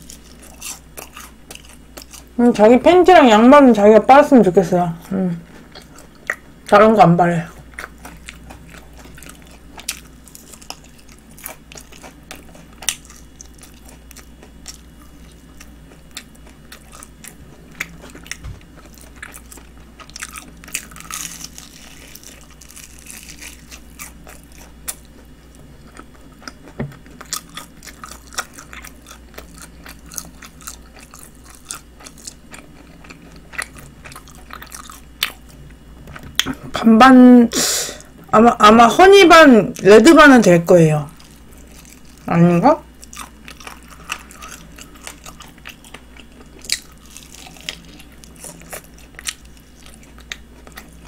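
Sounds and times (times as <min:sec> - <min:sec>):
crunchy chewing of fried chicken: 0:00.0 - 0:02.6, 0:04.9 - 0:06.8, 0:07.4 - 0:36.7, 0:41.1 - 0:51.0.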